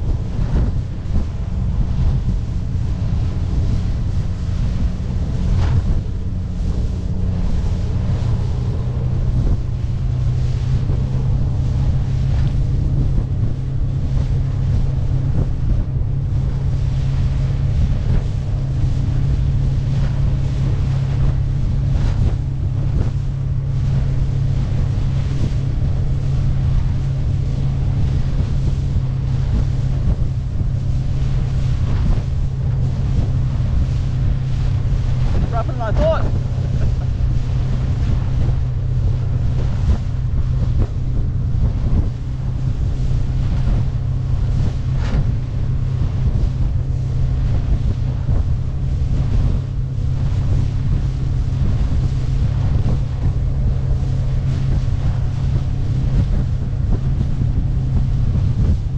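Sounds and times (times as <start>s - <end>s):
outboard motor running: 0.0s - 58.9s
water splashing past hull: 0.0s - 58.9s
wind buffeting microphone: 0.0s - 58.9s.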